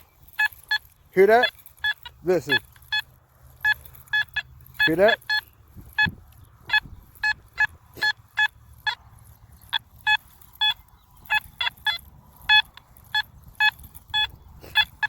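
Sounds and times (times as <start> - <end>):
metal detector beeps: 0.0 - 15.0.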